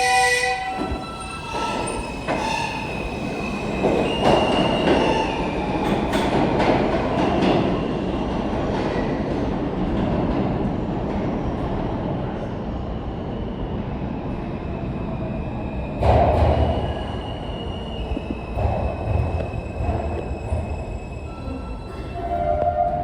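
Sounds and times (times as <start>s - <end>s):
subway train rumbling: 0.0s - 23.0s.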